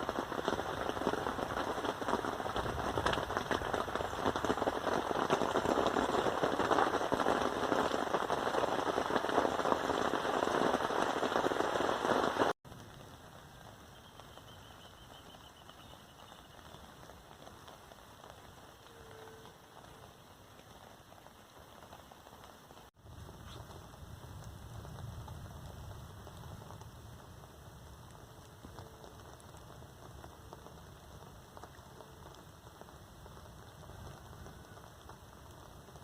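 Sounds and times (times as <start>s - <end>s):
heavy rain pattering: 0.0s - 36.0s.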